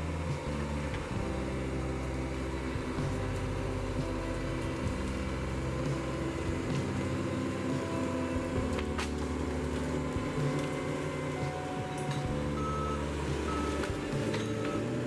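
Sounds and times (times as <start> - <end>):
diesel bulldozer engine: 0.0 - 15.0.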